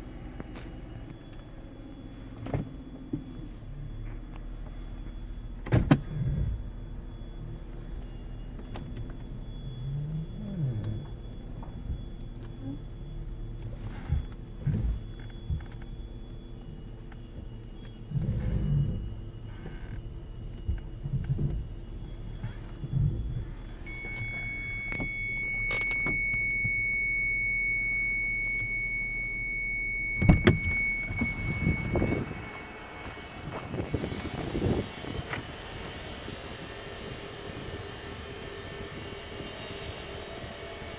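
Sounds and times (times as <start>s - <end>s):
car engine idling: 0.0s - 40.9s
high parking sensor warning tone: 0.0s - 40.9s.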